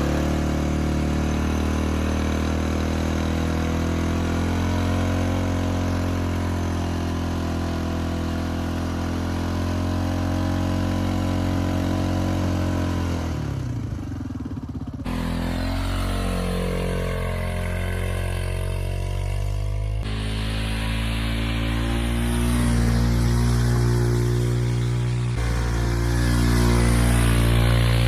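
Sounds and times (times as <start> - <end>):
engine with shifting pitch: 0.0 - 28.0
vehicle engine running under load: 0.0 - 28.0.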